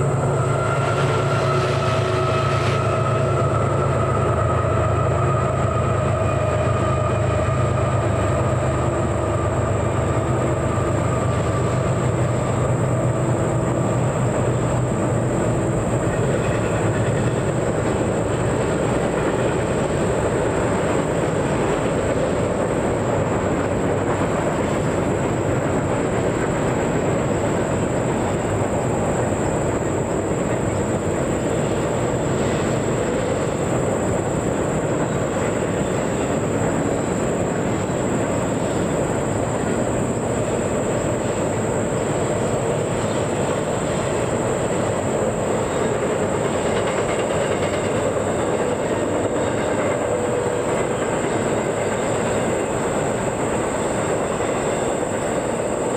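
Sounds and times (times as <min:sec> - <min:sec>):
train wheels rumbling and rattling: 0:00.0 - 0:55.9.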